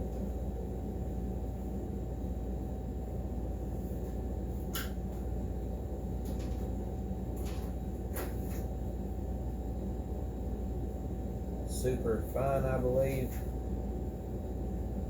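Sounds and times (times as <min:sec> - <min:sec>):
room noise hum: 0:00.0 - 0:15.0.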